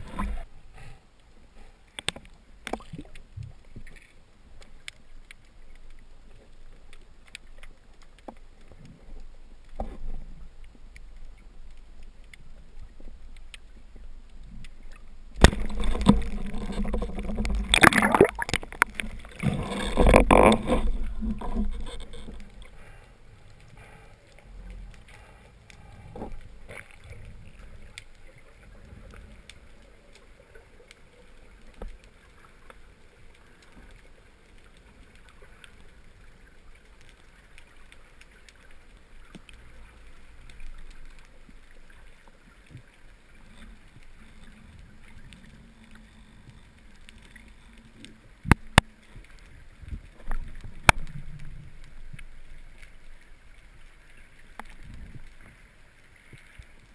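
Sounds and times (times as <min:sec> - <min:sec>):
faint low underwater rumble: 0:00.0 - 0:56.9.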